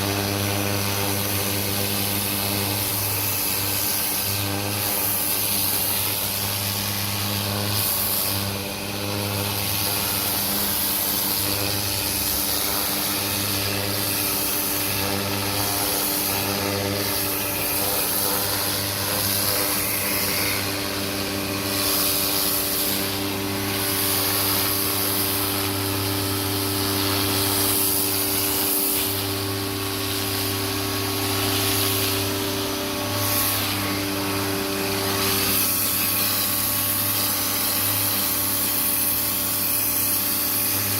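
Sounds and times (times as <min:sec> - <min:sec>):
pressure washer motor hum: 0:00.0 - 0:40.9
water spray hissing on siding: 0:00.0 - 0:40.9.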